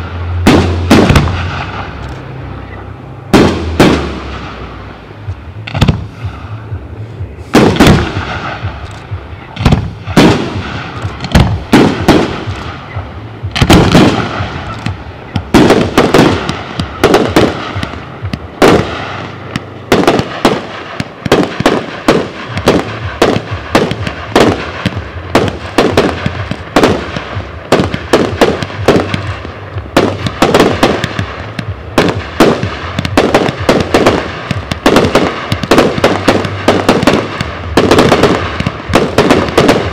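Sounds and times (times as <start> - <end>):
fireworks bangs: 0.0 - 2.6, 3.2 - 6.5, 7.2 - 39.9.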